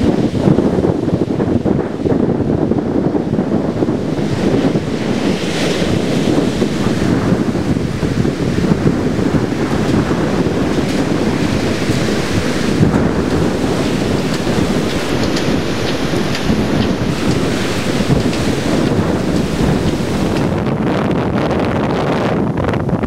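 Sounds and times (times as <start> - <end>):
surf breaking on beach: 0.0 - 23.0
wind on microphone: 0.0 - 23.0.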